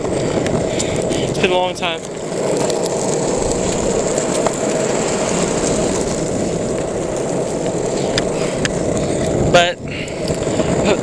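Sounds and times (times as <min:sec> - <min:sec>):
skateboard wheels rolling over pavement: 0:00.0 - 0:11.0.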